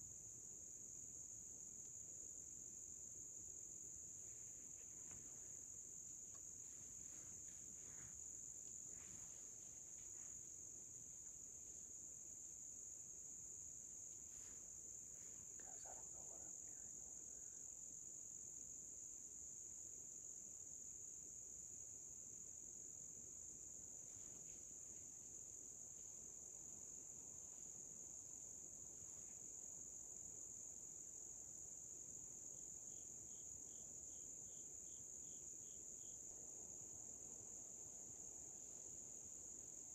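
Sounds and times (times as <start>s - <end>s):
crickets trilling: 0.0s - 39.9s
faint background hiss: 0.0s - 39.9s.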